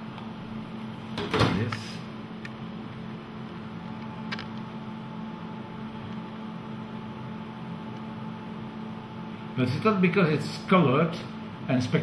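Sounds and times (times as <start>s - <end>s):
electrical and fan hum: 0.0s - 12.0s.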